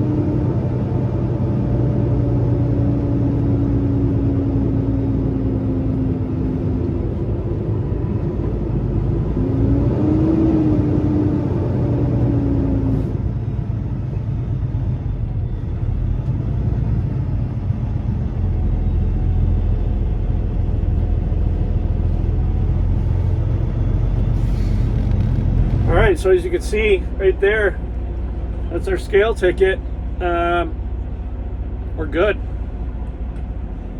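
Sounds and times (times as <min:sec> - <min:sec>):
diesel truck engine rumbling: 0:00.0 - 0:33.9.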